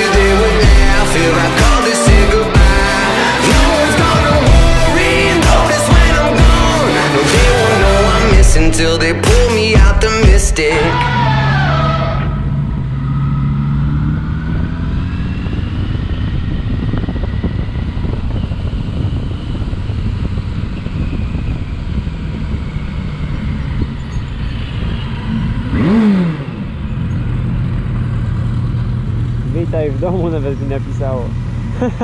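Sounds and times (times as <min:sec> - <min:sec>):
motorcycle engine humming: 0:00.0 - 0:32.0
road noise: 0:00.0 - 0:32.0.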